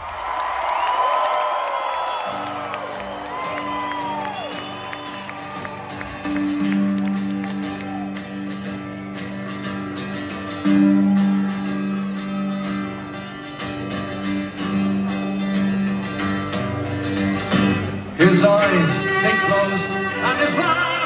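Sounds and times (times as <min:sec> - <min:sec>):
live band playing: 0:02.5 - 0:21.0
strummed acoustic guitar: 0:03.6 - 0:21.0.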